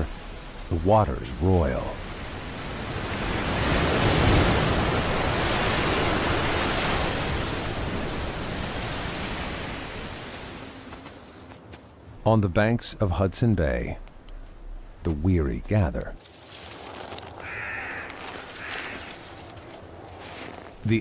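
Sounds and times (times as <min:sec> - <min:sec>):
waves and surf rushing: 0:00.0 - 0:21.0.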